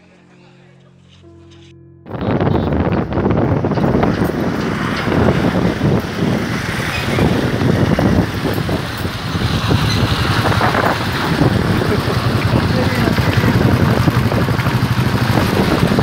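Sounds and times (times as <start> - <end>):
road noise: 0.0 - 16.0
motorcycle engine: 1.0 - 16.0
wind rumbling on microphone: 2.1 - 16.0.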